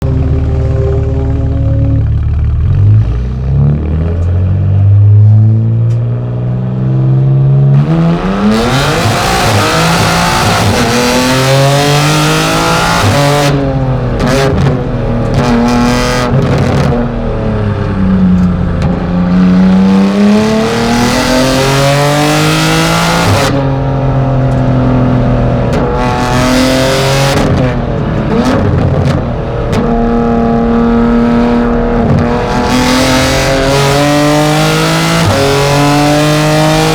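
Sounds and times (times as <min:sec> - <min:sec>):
race car engine through gears: 0:00.0 - 0:36.9
wind and road noise: 0:00.0 - 0:36.9.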